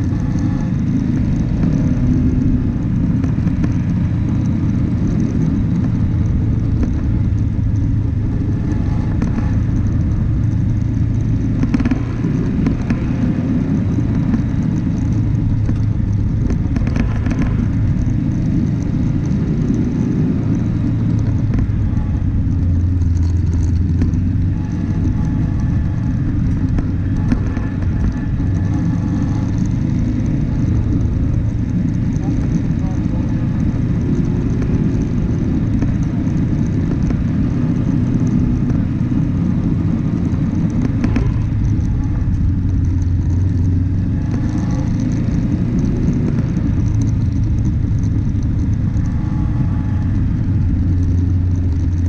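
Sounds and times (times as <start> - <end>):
vehicle engine and tyres rumbling: 0.0 - 52.0
vehicle rattles: 0.0 - 52.0.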